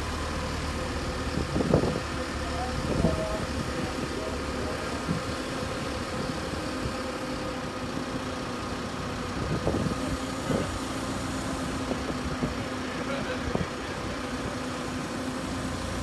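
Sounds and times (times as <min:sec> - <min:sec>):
heavy equipment engine running: 0:00.0 - 0:16.0.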